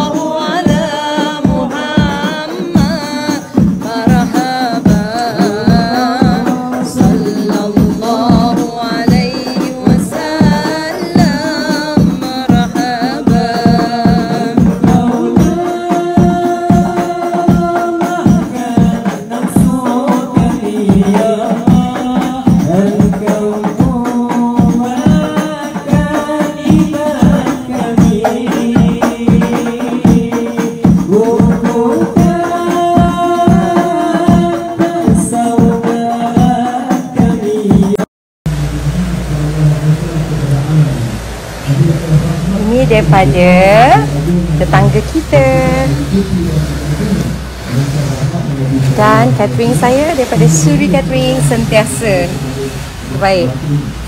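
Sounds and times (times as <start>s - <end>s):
men singing together: 0.0s - 39.0s, 39.6s - 54.0s
percussion beat: 0.0s - 54.0s.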